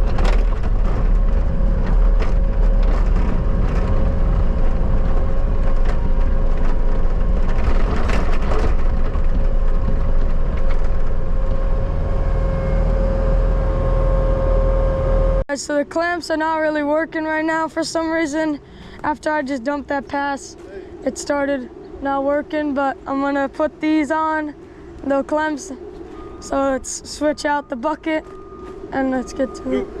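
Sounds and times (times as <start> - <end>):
skid steer engine whining: 0.0 - 15.4, 20.1 - 30.0.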